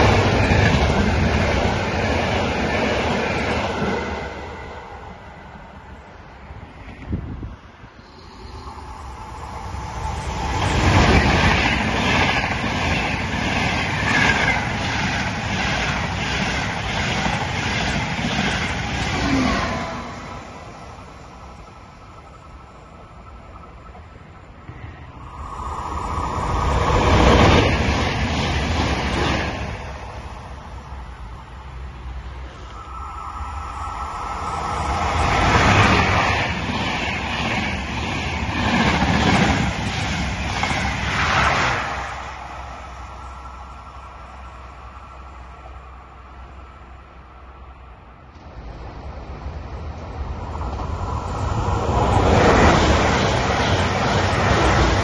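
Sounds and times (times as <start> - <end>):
high-speed train passing: 0.0 - 55.0.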